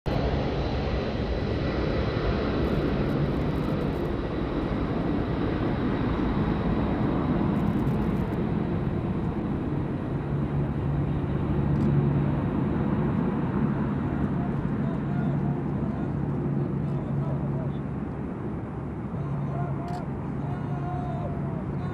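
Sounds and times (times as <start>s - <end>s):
jet engines at takeoff: 0.1s - 21.9s.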